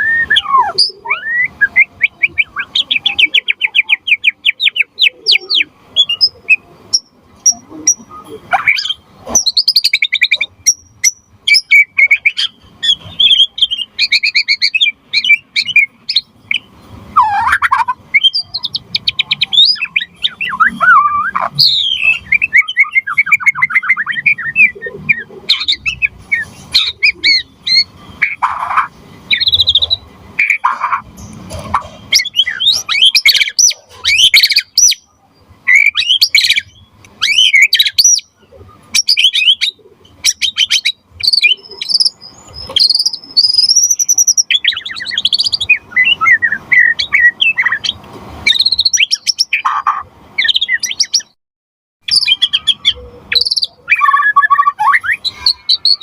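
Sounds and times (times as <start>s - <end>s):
bird singing whistles and trills: 0.0s - 28.4s, 29.3s - 30.8s, 32.1s - 35.1s, 35.7s - 51.4s, 52.0s - 56.0s.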